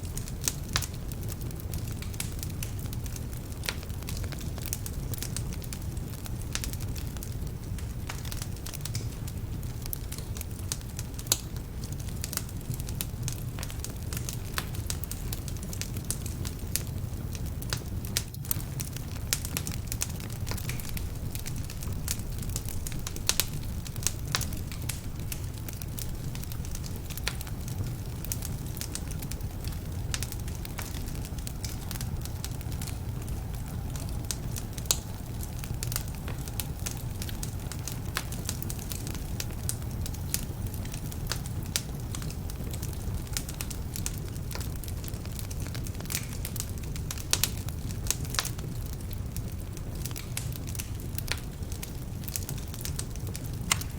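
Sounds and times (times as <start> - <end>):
crackles and pops from logs: 0.0 - 53.9
low rumble of flames: 0.0 - 53.9.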